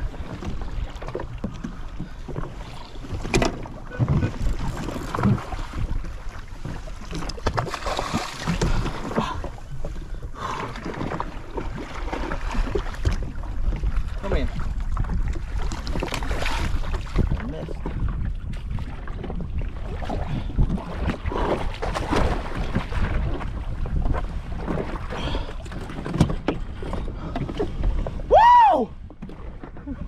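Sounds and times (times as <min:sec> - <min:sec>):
water sloshing and splashing: 0:00.0 - 0:30.0
wind buffeting microphone: 0:00.0 - 0:30.0.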